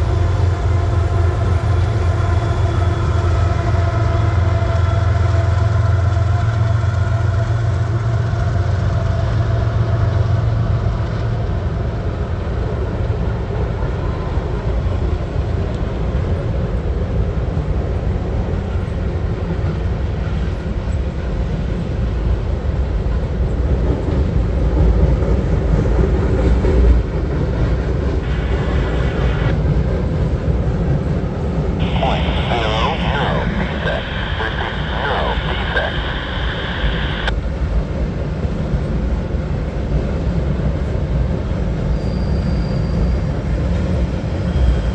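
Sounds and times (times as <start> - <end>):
diesel locomotive engine hum: 0.0 - 44.9.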